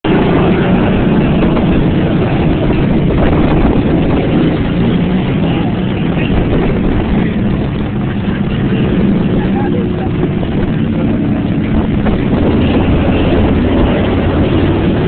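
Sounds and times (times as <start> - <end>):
heavy vehicle engines running: 0.0 - 15.0.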